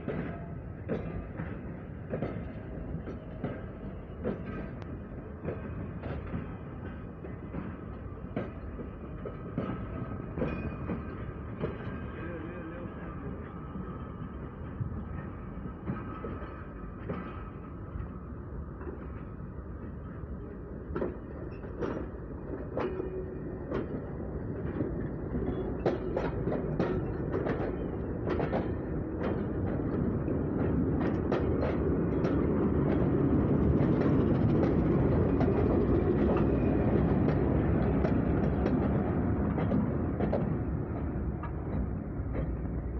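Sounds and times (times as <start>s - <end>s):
train passing by: 0.0s - 42.9s
train wheels clacking on rails: 0.0s - 42.9s.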